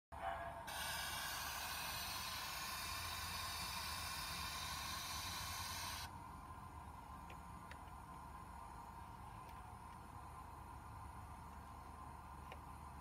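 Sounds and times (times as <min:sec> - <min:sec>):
steady hiss: 0:00.6 - 0:13.0.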